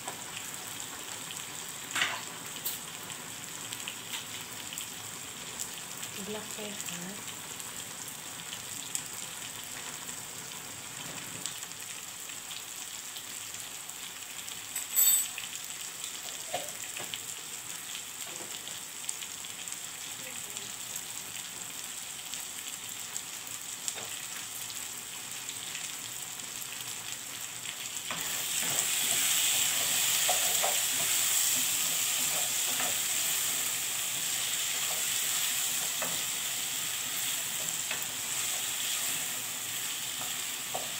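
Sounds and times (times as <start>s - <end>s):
potatoes sizzling in a pot: 0.0s - 40.9s.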